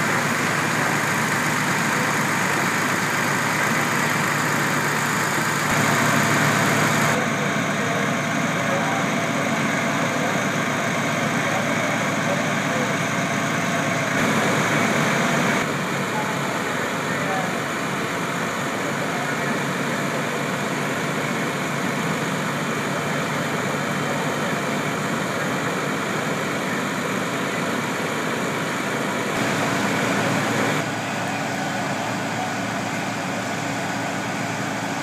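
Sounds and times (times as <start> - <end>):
fire engine engine running: 0.0 - 35.0.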